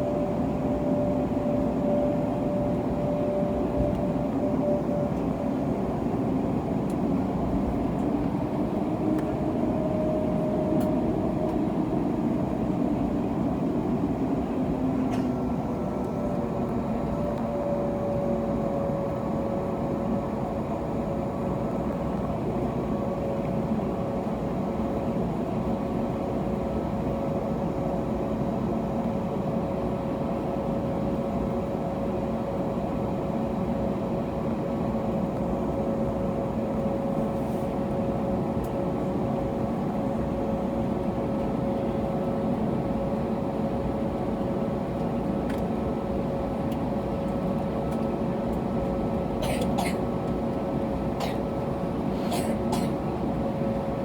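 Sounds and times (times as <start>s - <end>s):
airplane cabin hum: 0.0s - 54.0s.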